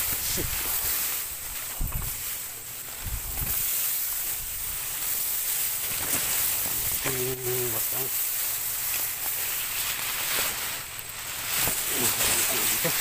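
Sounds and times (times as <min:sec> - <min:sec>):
grass rustling against phone: 0:00.0 - 0:13.0.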